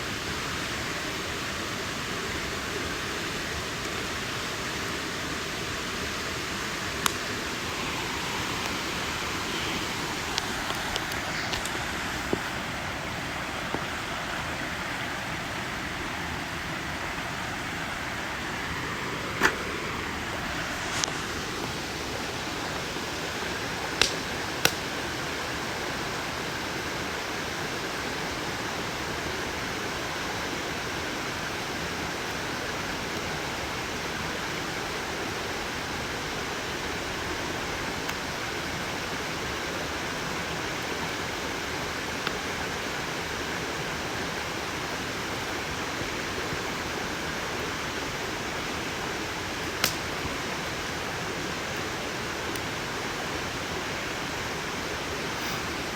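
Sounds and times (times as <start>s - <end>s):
campfire crackling and hissing: 0.0s - 55.9s.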